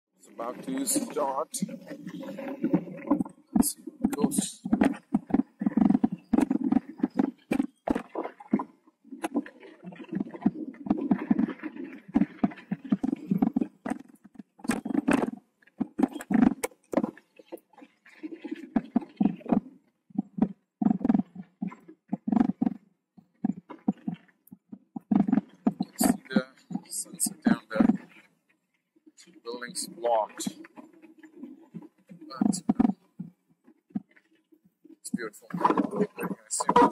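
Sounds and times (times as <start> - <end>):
tyre noise: 0.2 - 28.3, 29.2 - 34.3, 34.9 - 36.9.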